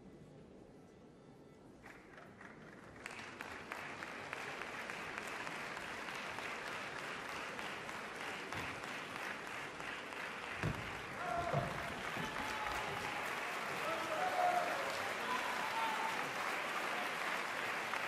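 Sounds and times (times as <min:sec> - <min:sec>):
audience applauding: 0:01.8 - 0:18.0.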